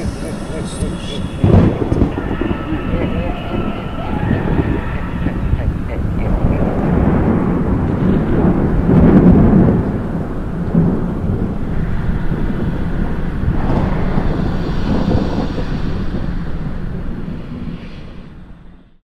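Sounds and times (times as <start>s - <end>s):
steady rain: 0.0s - 18.8s
thunder rumbling: 0.0s - 18.9s.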